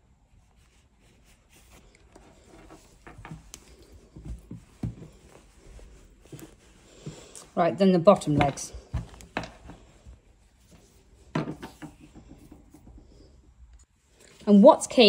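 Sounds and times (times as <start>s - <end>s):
hands rustling yarn toy: 0.0s - 14.7s.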